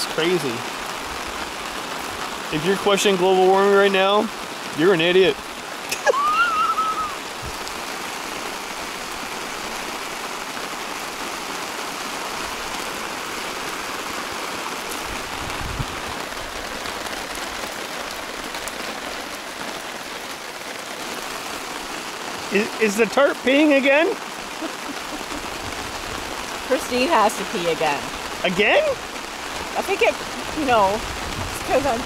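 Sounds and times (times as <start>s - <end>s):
rain on a nylon tarp: 0.0s - 32.0s
runoff pouring off tarp: 0.0s - 32.0s.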